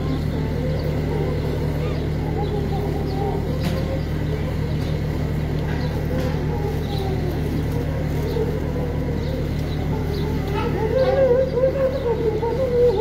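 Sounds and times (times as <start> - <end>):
engine idling: 0.0 - 13.0
faint crowd voices: 0.0 - 13.0.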